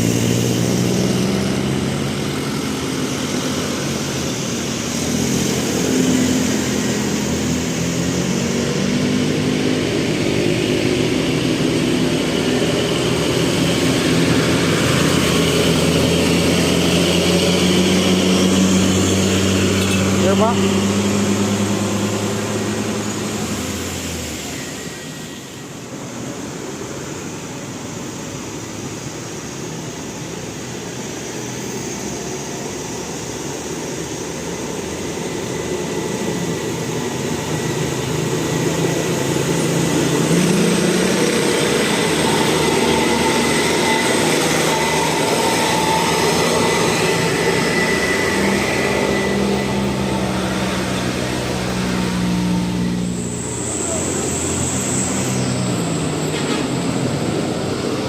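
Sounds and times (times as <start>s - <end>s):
buses driving past: 0.0s - 58.0s.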